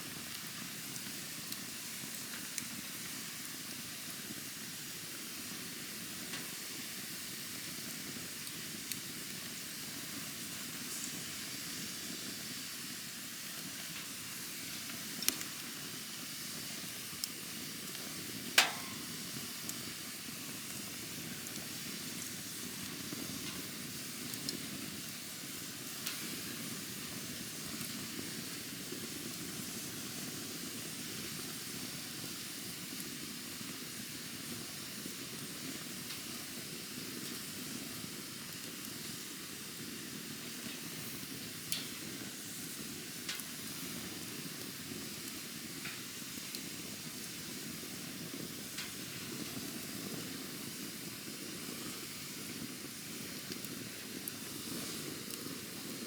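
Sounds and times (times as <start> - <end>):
campfire burning with crackles: 0.0 - 56.0.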